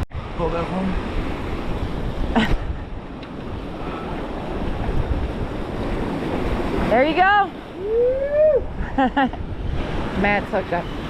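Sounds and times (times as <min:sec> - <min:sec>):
ocean surf washing: 0:00.0 - 0:11.0
wind buffeting microphone: 0:00.0 - 0:11.0.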